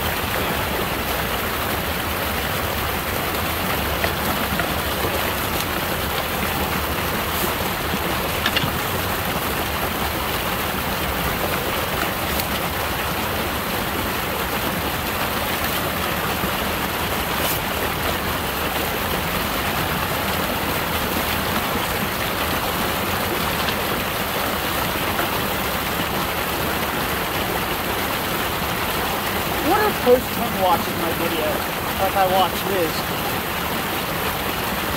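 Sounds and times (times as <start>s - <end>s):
shallow water rushing and splashing: 0.0s - 34.9s.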